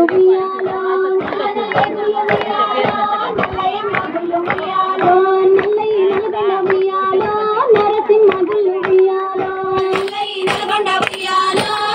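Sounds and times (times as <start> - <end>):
hands clapping in time: 0.0 - 11.9
women and girls singing: 0.0 - 11.9.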